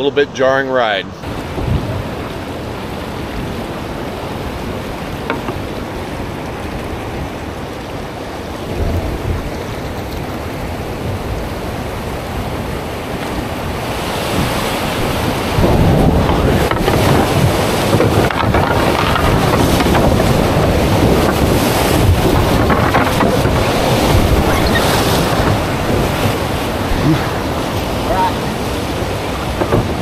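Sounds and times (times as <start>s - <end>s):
river water rushing over rocks: 1.2s - 30.0s
wind buffeting microphone: 1.2s - 30.0s.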